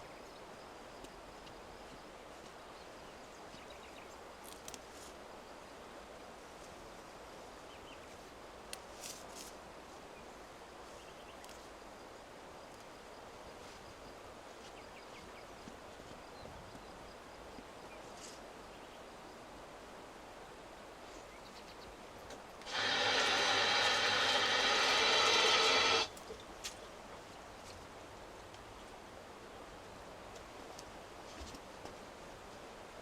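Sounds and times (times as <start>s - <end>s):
faint background noise: 0.0s - 33.0s.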